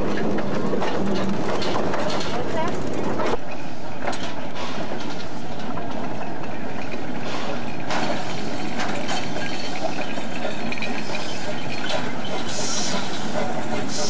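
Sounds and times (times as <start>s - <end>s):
railroad wheels rumbling on rails: 0.0s - 14.0s.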